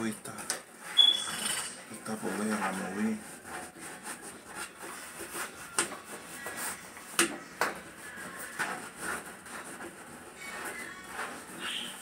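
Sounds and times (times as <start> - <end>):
light scraping and rustling: 0.2 - 12.0.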